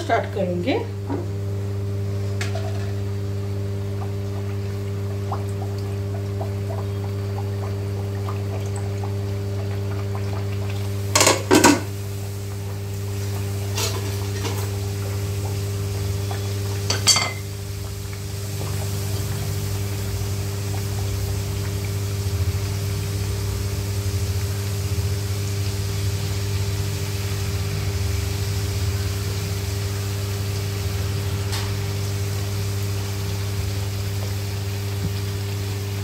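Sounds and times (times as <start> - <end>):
food deep-frying in oil: 0.0 - 36.0.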